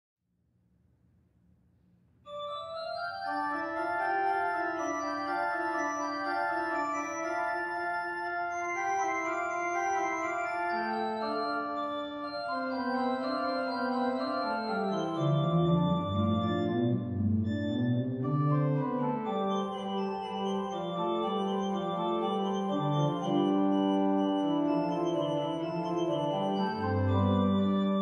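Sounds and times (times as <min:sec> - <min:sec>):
pipe organ chords: 0:02.3 - 0:28.0.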